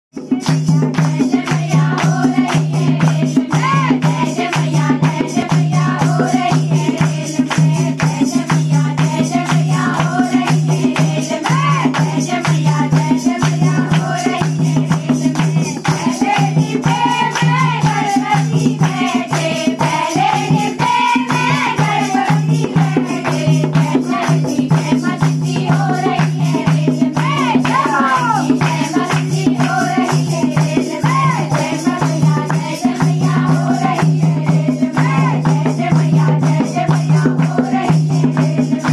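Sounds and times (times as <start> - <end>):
hand drum: 0.2 - 38.9
women singing in unison: 0.2 - 38.9
hand clapping: 0.4 - 34.2.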